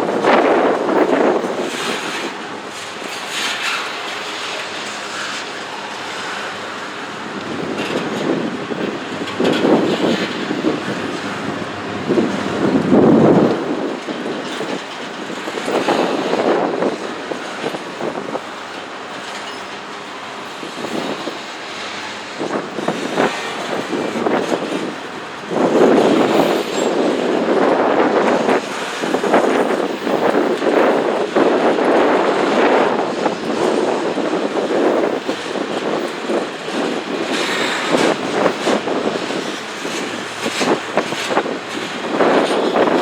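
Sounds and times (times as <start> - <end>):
train wheels clattering on rails: 0.0 - 43.0.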